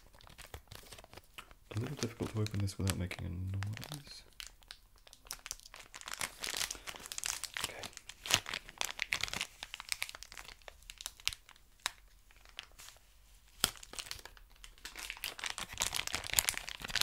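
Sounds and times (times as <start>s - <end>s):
plastic wrapping crinkling and tearing: 0.0s - 17.0s.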